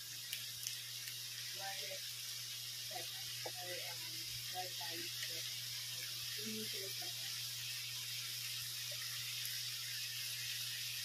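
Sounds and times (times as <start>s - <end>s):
food sizzling in a pan: 0.0s - 11.0s
low steady hum: 0.1s - 11.0s.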